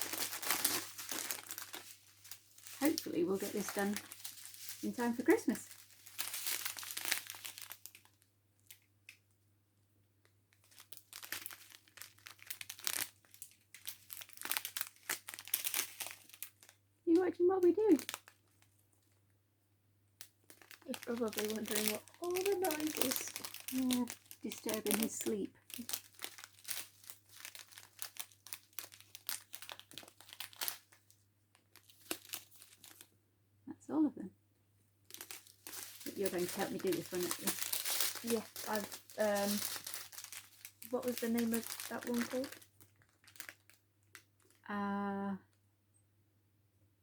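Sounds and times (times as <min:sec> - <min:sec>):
plastic packaging crinkling: 0:00.0 - 0:09.3, 0:10.5 - 0:19.3, 0:20.2 - 0:33.1, 0:35.1 - 0:44.6.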